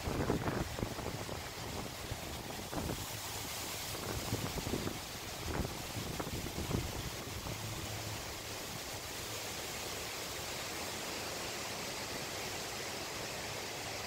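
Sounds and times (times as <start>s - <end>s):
steady wind hiss: 0.0s - 14.0s.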